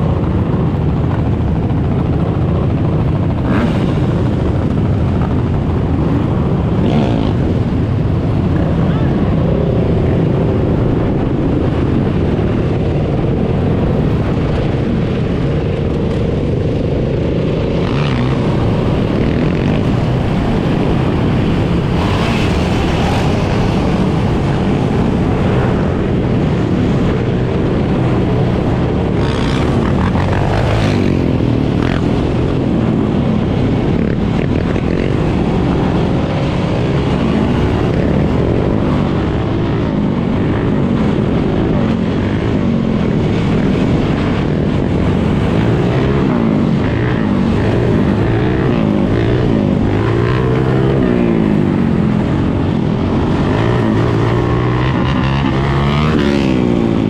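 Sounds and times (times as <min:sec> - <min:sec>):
dirt bike and atv engines droning: 0:00.0 - 0:57.0
engines revving: 0:00.0 - 0:57.0.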